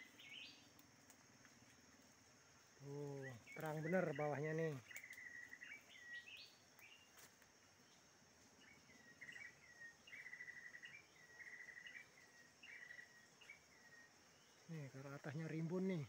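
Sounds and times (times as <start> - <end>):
bird song with rapid trill: 0.0 - 0.7, 2.8 - 7.1, 7.8 - 16.0
high insect drone: 0.0 - 16.0.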